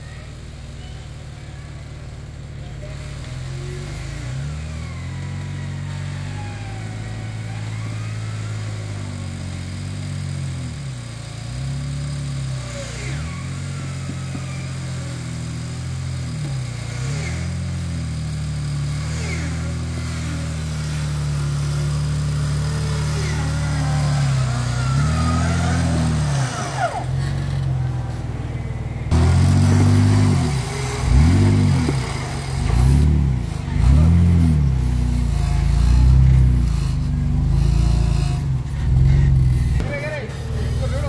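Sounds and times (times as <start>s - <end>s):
engine running under load: 0.0s - 41.0s.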